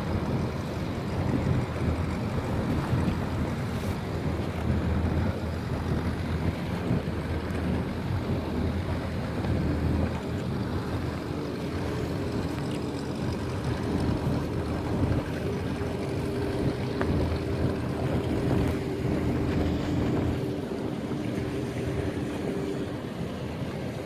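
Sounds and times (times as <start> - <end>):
motorboat engine hum: 0.0 - 24.0
water lapping: 0.0 - 24.0
wind buffeting microphone: 0.0 - 24.0.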